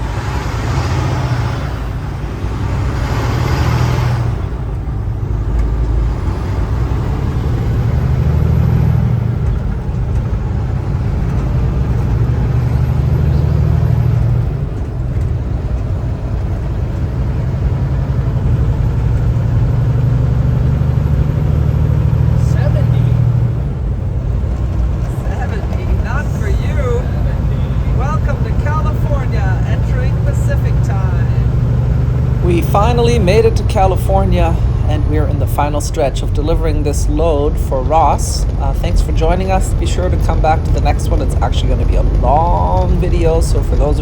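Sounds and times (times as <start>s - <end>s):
truck engine rumble: 0.0s - 44.0s.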